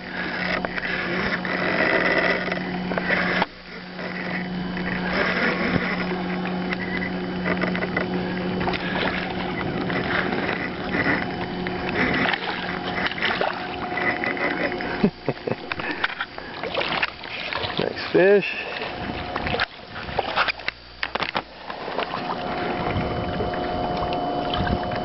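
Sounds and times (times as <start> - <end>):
low hum: 0.0 - 25.0
water lapping against boat: 0.0 - 25.0.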